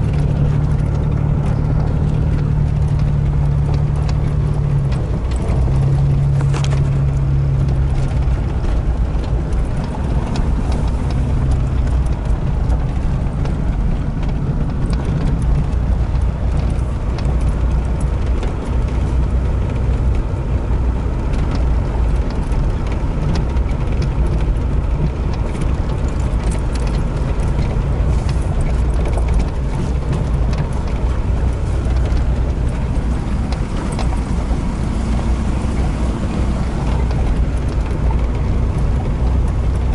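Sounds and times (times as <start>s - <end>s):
knocks and rattles: 0.0s - 39.9s
truck engine and tyres rumbling: 0.0s - 39.9s.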